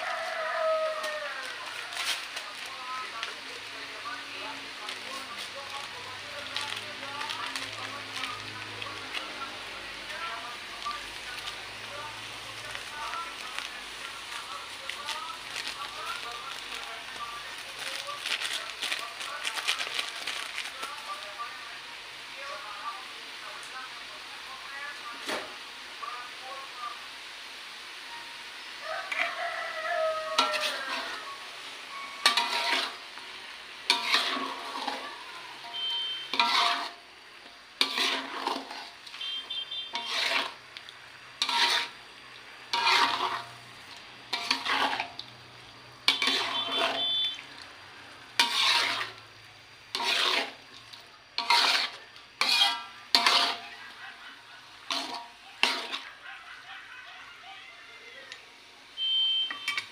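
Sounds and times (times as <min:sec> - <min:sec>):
spatula scraping a wok: 0:00.0 - 0:21.6, 0:28.8 - 0:57.1, 0:59.5 - 0:59.9
frying sizzle: 0:00.0 - 0:59.9.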